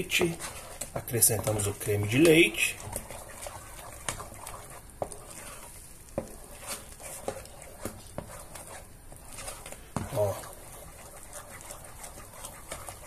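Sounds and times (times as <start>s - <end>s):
mashed potato being stirred: 0.0s - 13.0s.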